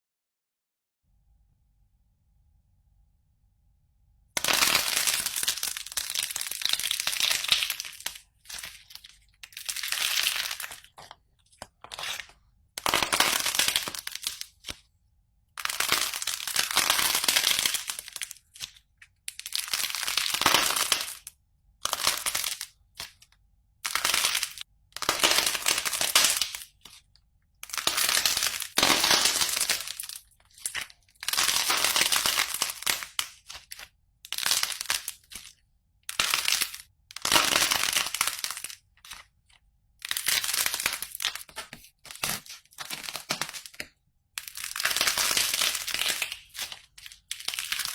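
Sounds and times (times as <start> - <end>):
slime crackling and crunching: 4.4 - 14.8, 15.6 - 47.9.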